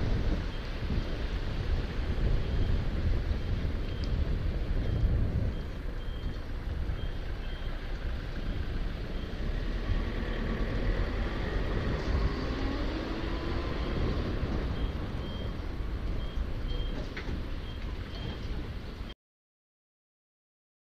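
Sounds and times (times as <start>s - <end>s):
traffic rumble: 0.0s - 19.2s
wind: 0.0s - 19.2s.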